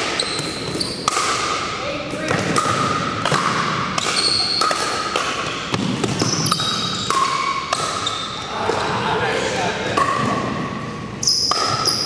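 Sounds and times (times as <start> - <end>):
paddles hitting balls: 0.0 - 12.0.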